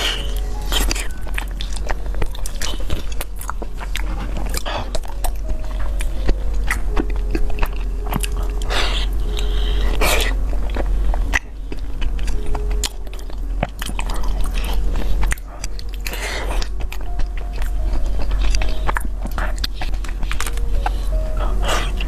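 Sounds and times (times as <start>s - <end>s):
low steady hum: 0.0s - 22.0s
wet chewing and mouth smacks: 0.0s - 22.0s.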